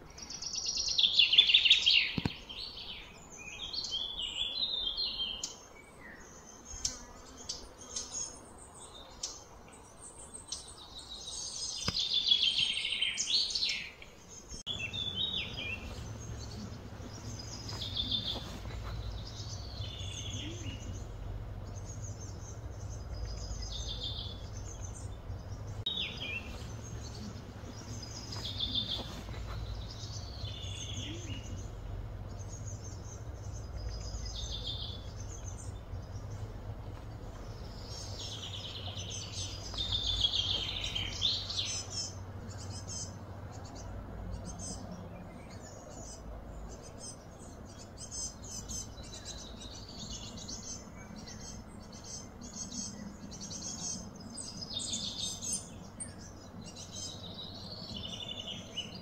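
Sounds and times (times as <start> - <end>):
low background hum: 0.0 - 59.0
songbirds chirping: 0.0 - 59.0.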